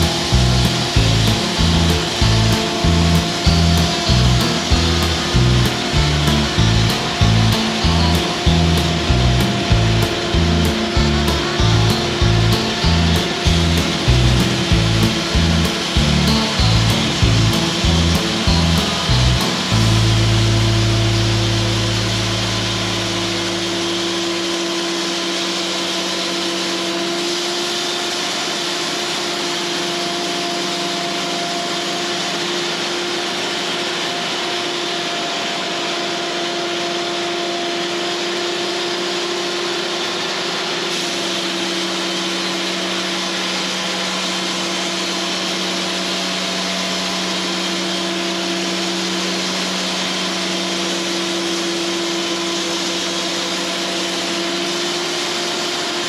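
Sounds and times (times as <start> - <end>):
band saw cutting wood: 0.0 - 56.0
machine hum: 0.0 - 56.0.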